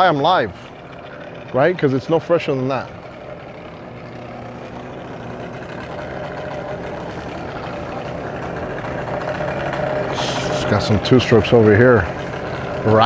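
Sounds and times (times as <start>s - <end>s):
outboard motors idling with rattle: 0.0s - 13.0s.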